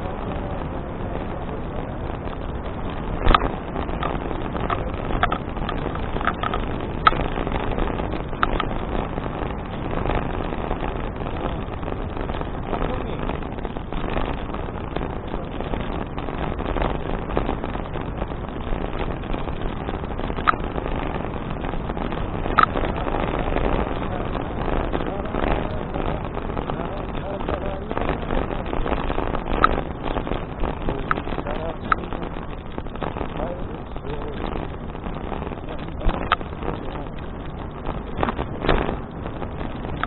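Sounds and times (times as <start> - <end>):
bicycle rolling noise: 0.0 - 40.0
wind noise: 0.0 - 40.0.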